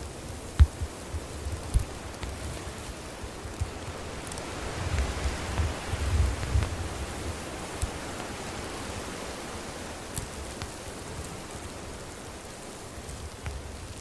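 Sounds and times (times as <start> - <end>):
campfire hissing: 0.0 - 14.0
fire crackles and pops: 0.0 - 14.0.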